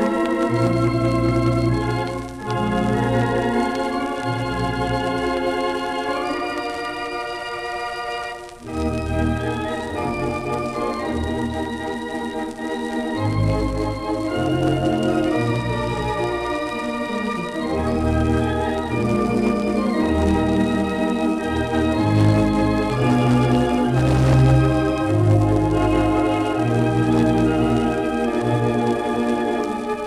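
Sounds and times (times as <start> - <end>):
theatre pipe organ playing: 0.0 - 30.0.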